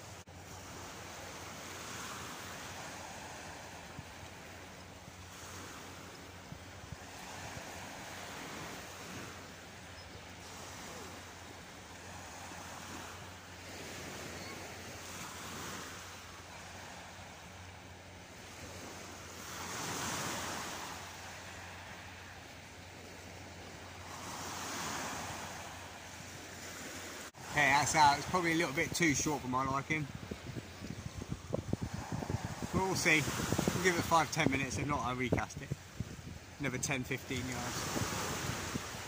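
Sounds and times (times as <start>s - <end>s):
small waves breaking on shore: 0.0s - 39.0s.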